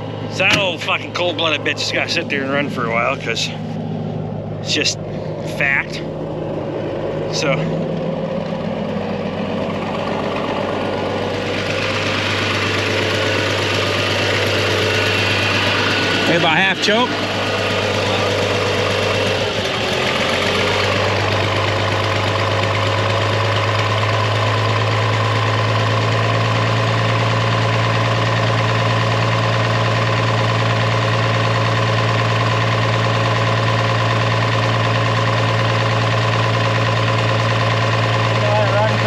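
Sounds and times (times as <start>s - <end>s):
tractor engine idling: 0.0s - 39.0s.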